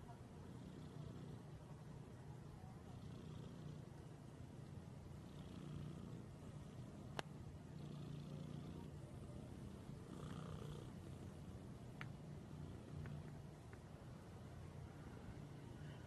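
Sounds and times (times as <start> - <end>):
cat purring: 0.0 - 2.2, 2.8 - 13.8.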